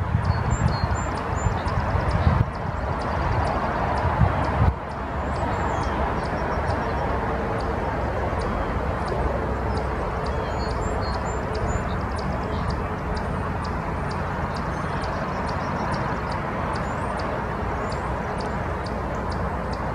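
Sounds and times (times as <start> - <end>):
even rumble and hiss: 0.0 - 19.9.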